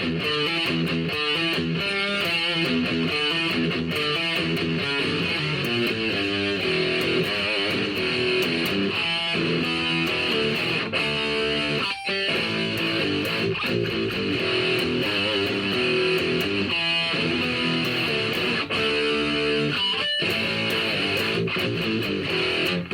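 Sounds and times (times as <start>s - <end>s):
guitar strumming chords: 0.0s - 22.9s.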